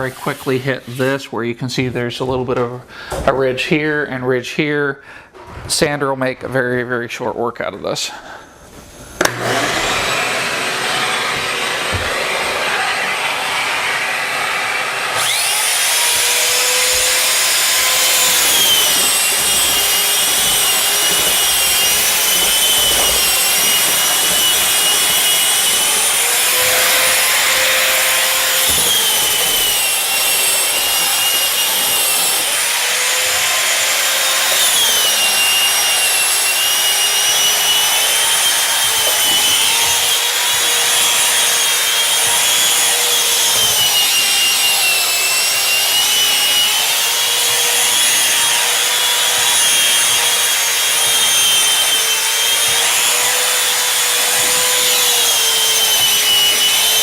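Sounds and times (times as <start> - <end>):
shop vac running: 8.3 - 57.0
drywall sander motor whine: 9.0 - 57.0
scratchy sanding on wall: 9.8 - 57.0.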